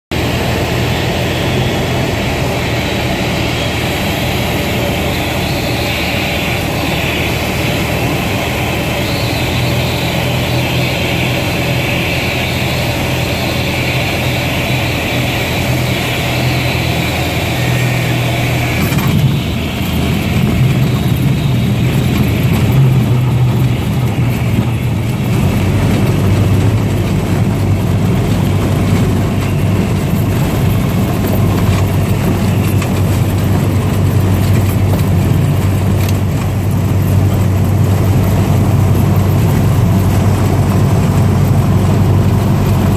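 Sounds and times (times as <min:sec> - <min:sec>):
airplane engine and propeller: 0:00.1 - 0:42.9
wheels rumbling on grass: 0:00.1 - 0:42.9.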